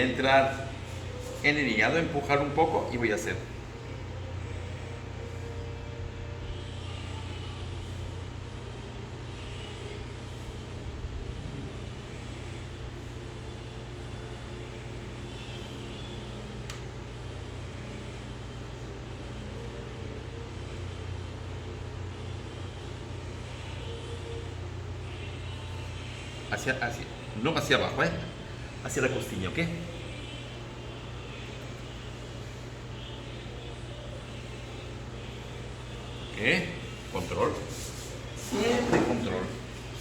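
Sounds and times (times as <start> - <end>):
low droning hum: 0.0 - 40.0.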